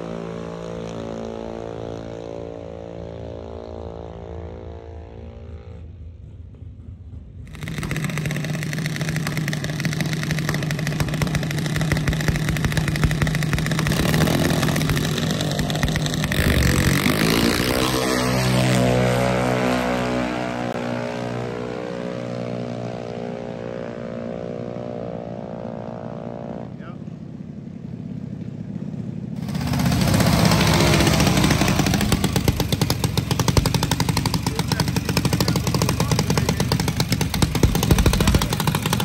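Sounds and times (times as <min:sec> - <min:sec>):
small dragster engines revving: 0:00.0 - 0:06.2, 0:07.3 - 0:27.0, 0:29.2 - 0:39.0.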